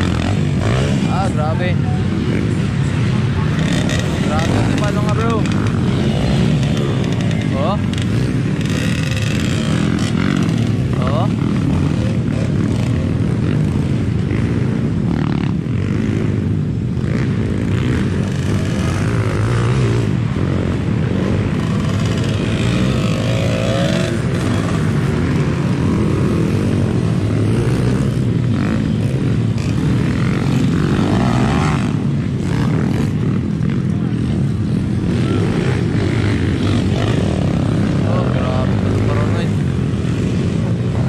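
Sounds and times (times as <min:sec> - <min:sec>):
dirt bike engines racing: 0:00.0 - 0:41.0.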